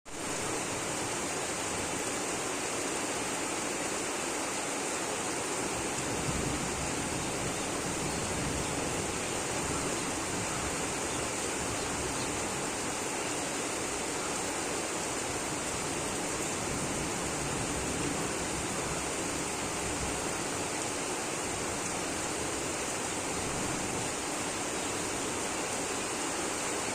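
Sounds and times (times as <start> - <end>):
heavy rain downpour: 0.1 - 26.9.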